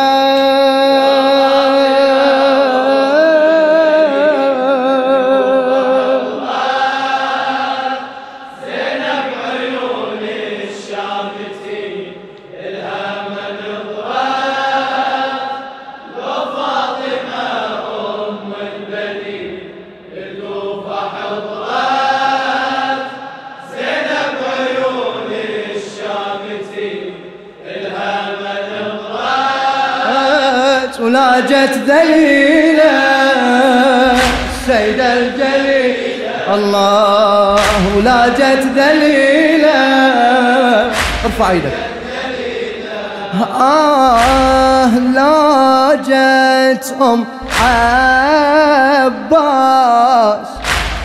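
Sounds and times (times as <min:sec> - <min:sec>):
men chanting a mourning refrain: 0:00.0 - 0:51.0.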